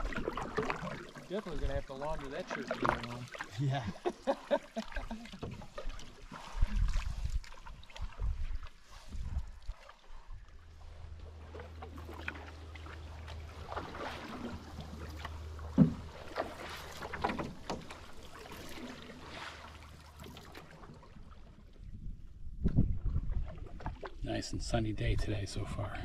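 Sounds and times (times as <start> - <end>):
paddles dipping in water: 0.0 - 24.4.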